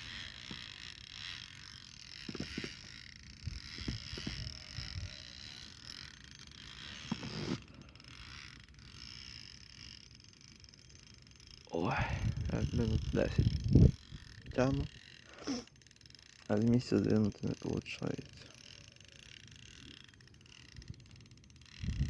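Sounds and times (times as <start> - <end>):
fishing reel creaking and clicking: 0.0 - 22.0.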